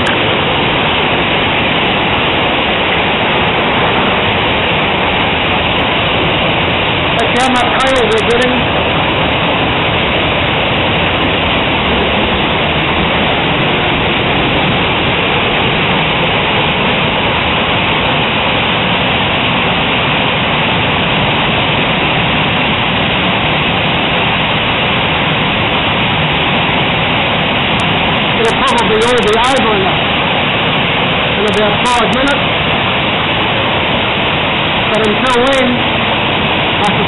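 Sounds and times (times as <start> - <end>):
hail and heavy rain pelting: 0.0 - 37.0.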